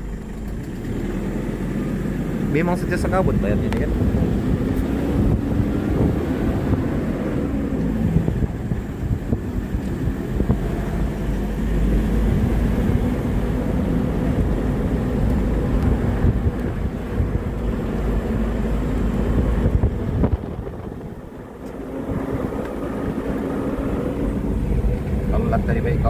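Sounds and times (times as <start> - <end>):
vehicle engine rumble: 0.0 - 26.0
wind noise: 1.9 - 26.0.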